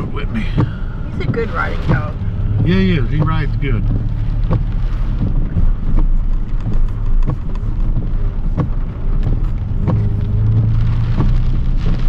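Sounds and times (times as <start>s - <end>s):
engine and road rumble: 0.0s - 12.0s
sharp taps and knocks: 0.6s - 12.0s.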